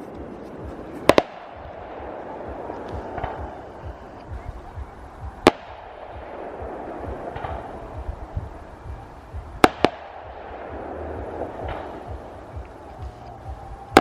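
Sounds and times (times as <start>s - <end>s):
firework shell bursts: 0.0s - 4.3s, 5.1s - 14.0s
low firework thuds and crackle: 0.0s - 14.0s.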